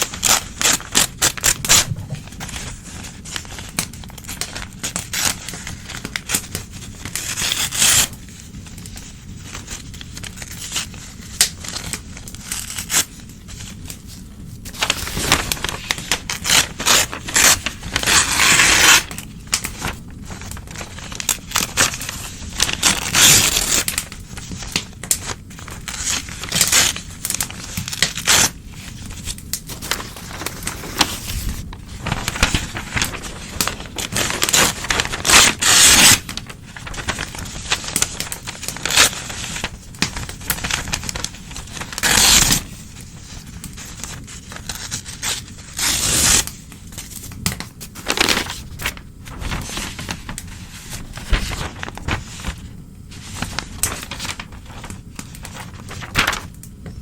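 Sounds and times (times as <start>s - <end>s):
newspaper tearing and crumpling: 0.0s - 56.6s.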